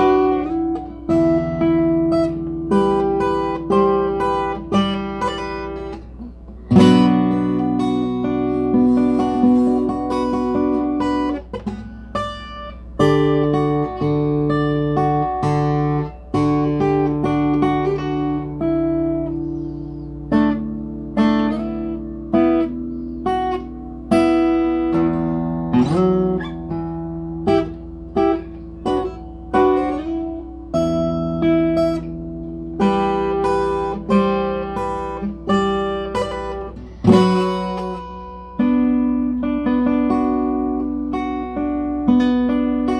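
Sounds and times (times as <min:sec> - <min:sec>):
steady low hum: 0:00.0 - 0:39.6
guitar notes and chords: 0:00.0 - 0:42.9.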